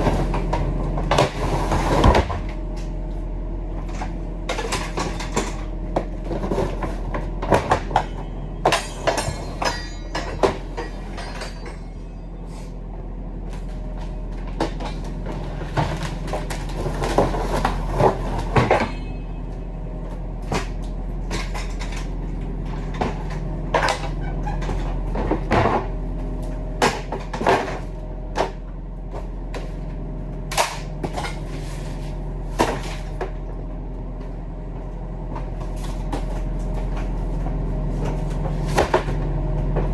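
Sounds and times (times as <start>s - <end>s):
knocks clunks and rattles: 0.0s - 3.0s, 3.7s - 12.4s, 13.4s - 33.6s, 34.2s - 39.9s
low engine drone: 0.0s - 39.9s.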